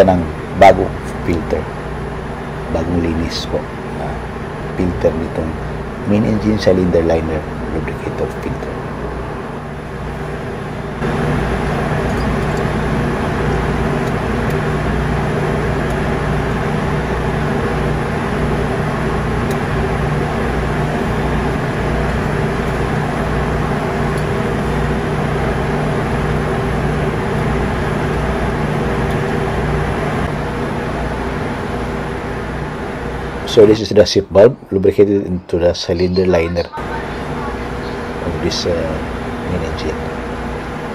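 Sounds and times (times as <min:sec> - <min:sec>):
engine room machinery drone: 0:00.0 - 0:40.9.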